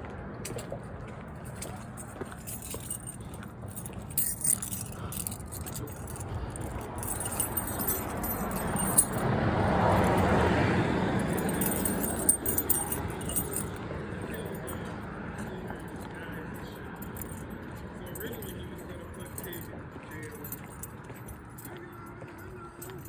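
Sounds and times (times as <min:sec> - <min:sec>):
keys jingling: 0:01.4 - 0:23.0
car passing: 0:01.9 - 0:23.0.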